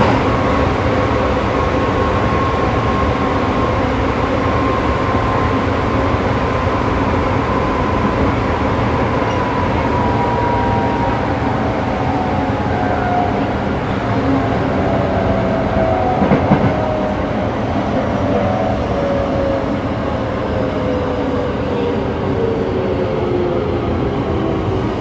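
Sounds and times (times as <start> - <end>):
faint train whine: 0.0 - 25.0.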